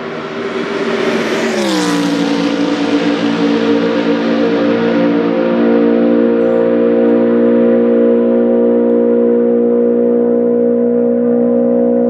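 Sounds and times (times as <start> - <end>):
racing car engine at high revs: 0.0 - 12.0.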